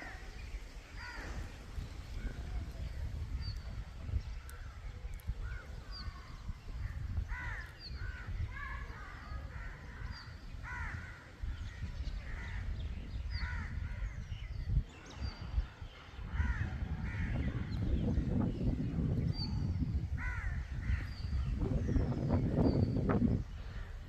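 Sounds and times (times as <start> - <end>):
birds calling: 0.0 - 24.0.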